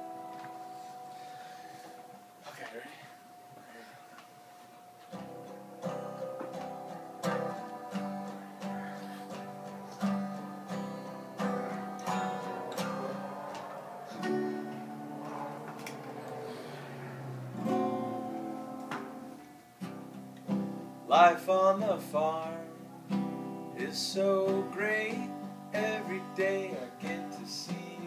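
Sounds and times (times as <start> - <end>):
acoustic guitar strumming: 0.0 - 2.5, 4.8 - 28.0.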